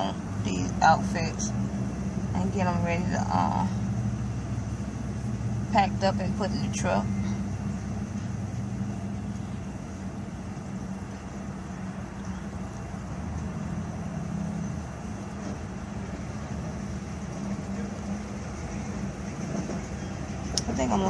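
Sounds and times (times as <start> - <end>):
car engine hum from inside: 0.0 - 21.0.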